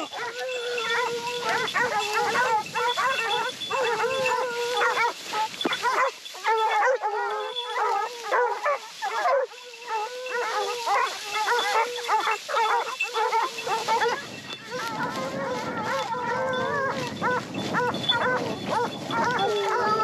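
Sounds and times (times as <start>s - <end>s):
hounds baying: 0.0s - 20.0s.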